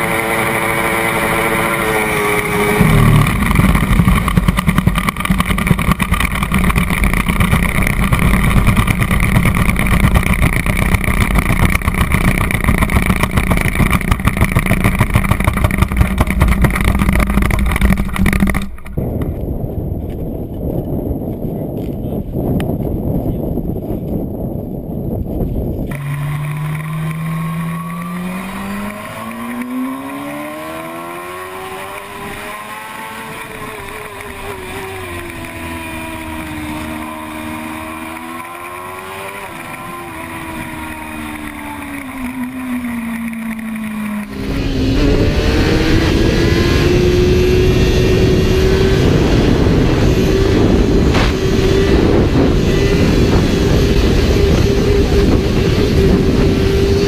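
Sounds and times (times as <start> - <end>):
motorcycle engine revving: 0.0 - 20.6, 25.7 - 57.0
wind rushing over microphone: 0.0 - 57.0.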